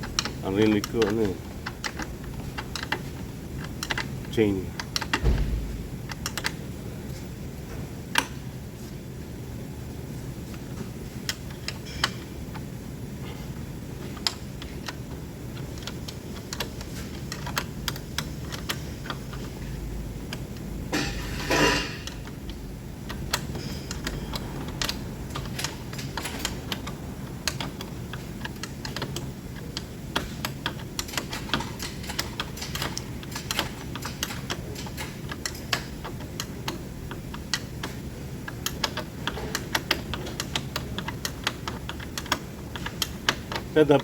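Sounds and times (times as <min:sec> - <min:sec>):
rapid irregular clicking: 0:00.0 - 0:06.7, 0:10.5 - 0:20.7, 0:22.0 - 0:44.0.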